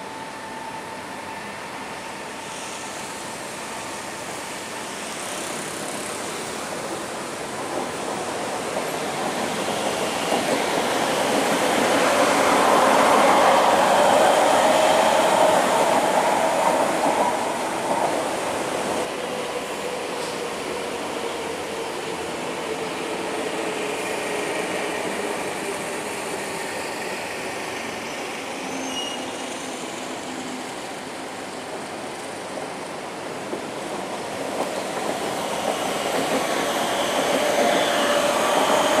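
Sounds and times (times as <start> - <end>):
electric train rumbling past: 0.0 - 39.0.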